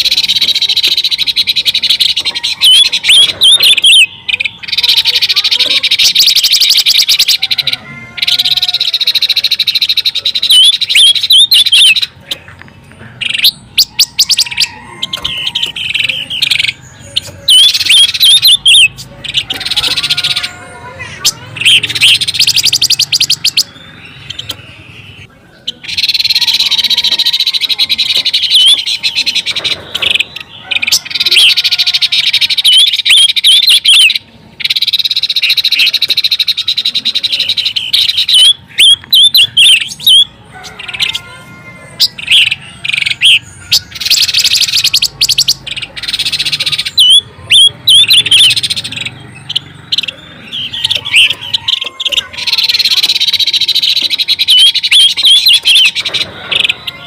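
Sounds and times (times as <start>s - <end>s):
high-pitched bird chirping: 0.0s - 57.0s.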